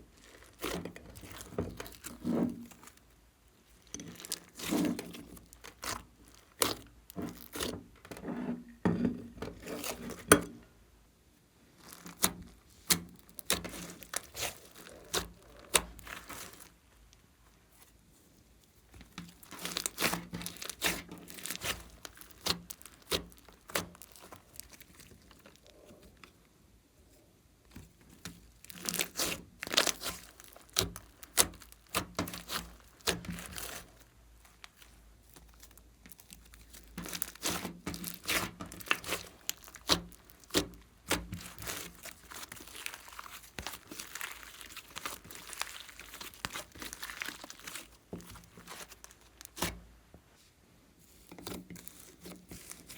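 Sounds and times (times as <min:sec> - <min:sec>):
slime squished by hand: 0:00.0 - 0:07.8, 0:11.7 - 0:16.9, 0:18.7 - 0:26.4, 0:27.7 - 0:49.9, 0:51.0 - 0:52.9.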